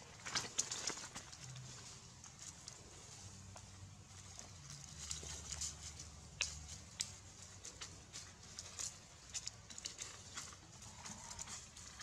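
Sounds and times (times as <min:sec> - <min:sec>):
dry leaves crackling and rustling: 0:00.0 - 0:12.0.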